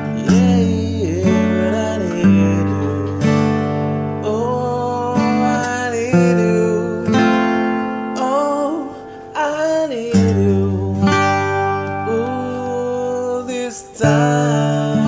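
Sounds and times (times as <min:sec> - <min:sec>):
acoustic guitar: 0:00.0 - 0:15.0
person singing: 0:00.0 - 0:15.0.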